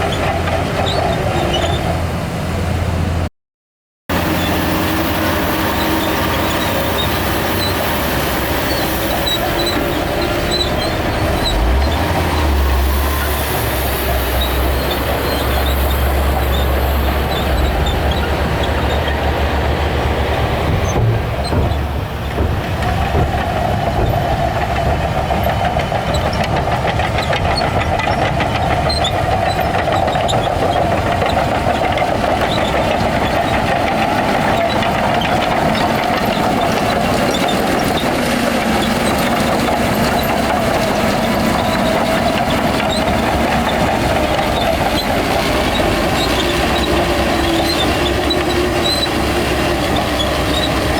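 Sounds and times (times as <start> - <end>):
steel tracks clanking: 0.0 - 2.2, 4.1 - 50.9
bulldozer diesel engine under load: 0.0 - 3.3, 4.1 - 50.9.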